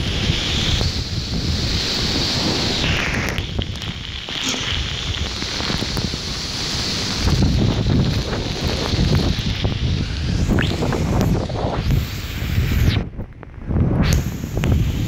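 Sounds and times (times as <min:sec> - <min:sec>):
heavy rain pouring: 0:00.0 - 0:15.0
wind buffeting microphone: 0:00.0 - 0:15.0.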